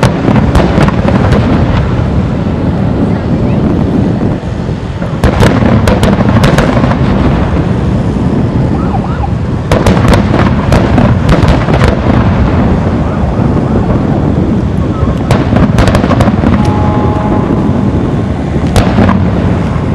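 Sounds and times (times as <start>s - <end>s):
fireworks booming overhead: 0.0s - 19.9s
sharp firework bangs: 0.0s - 19.9s.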